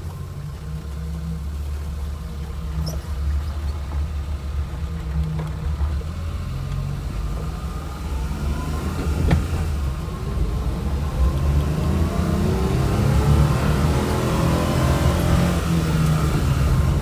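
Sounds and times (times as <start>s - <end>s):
road rumble: 0.0s - 17.0s
small van engine accelerating: 0.0s - 17.0s.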